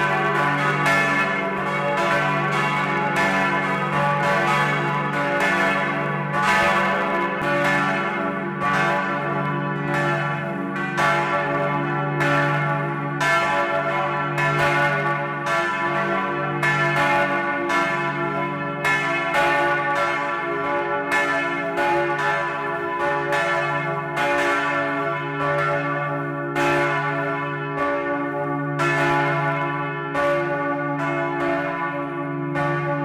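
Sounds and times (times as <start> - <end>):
church bells pealing: 0.0 - 33.0.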